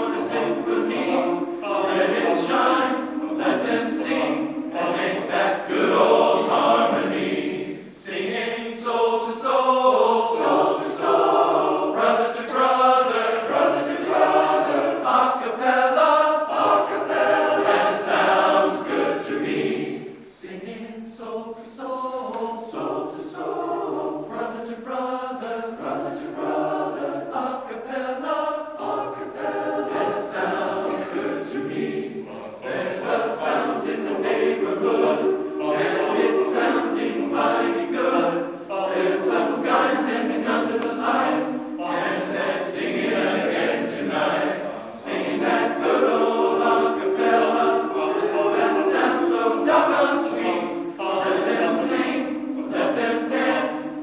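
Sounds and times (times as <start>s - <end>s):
men's choir singing a cappella: 0.0s - 54.0s.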